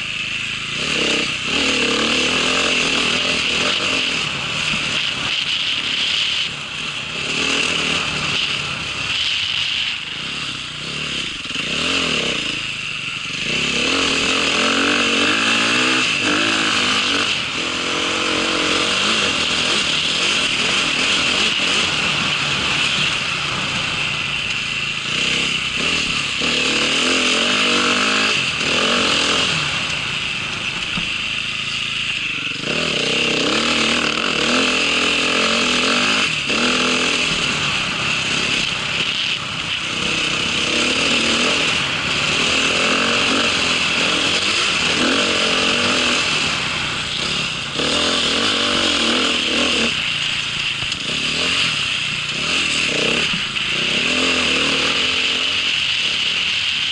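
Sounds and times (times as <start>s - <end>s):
small vehicle engine revving: 0.0s - 56.9s
steady rushing noise: 0.0s - 56.9s.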